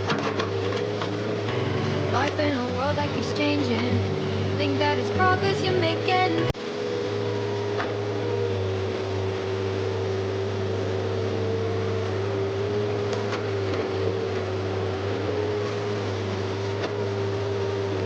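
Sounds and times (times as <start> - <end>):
excavator diesel engine running: 0.0 - 18.0
steady whine: 0.0 - 18.0.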